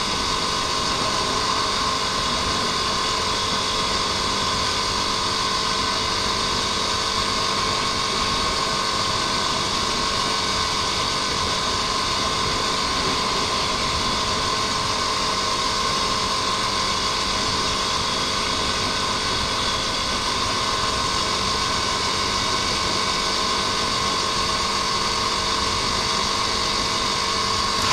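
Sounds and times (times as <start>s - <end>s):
motorcycle engine cruising: 0.0s - 27.9s
wind and road noise: 0.0s - 27.9s.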